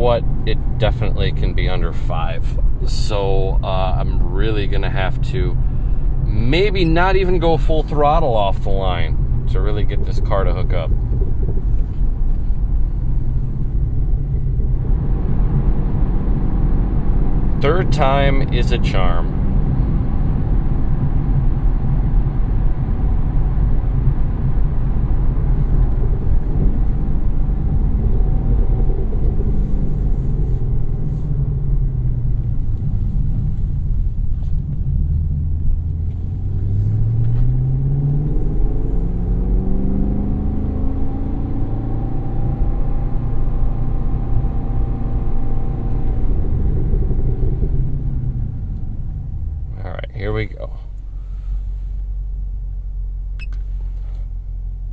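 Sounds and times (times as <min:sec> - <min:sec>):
car engine from inside cabin: 0:00.0 - 0:54.9.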